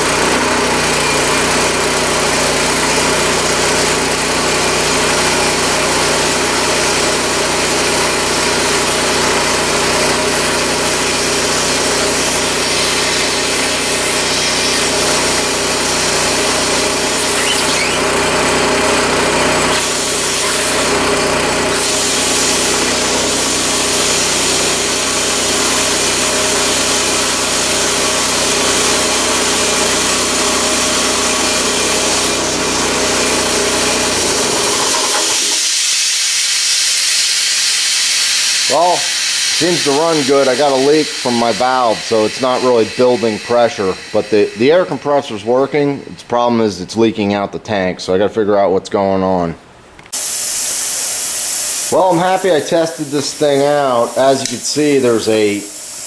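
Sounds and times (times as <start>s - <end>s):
engine running: 0.0s - 45.3s, 50.2s - 56.0s.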